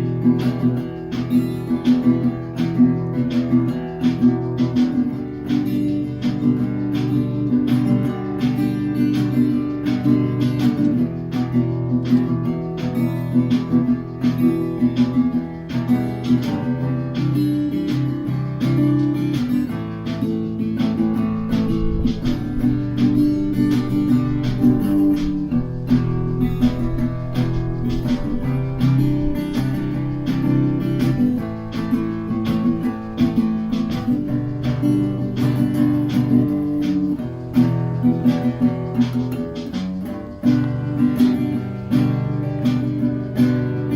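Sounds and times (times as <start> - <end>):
acoustic guitar: 0.0 - 43.9.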